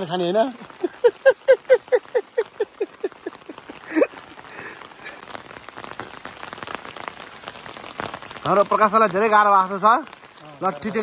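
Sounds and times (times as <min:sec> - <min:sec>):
rain pattering on umbrellas: 0:00.0 - 0:11.0.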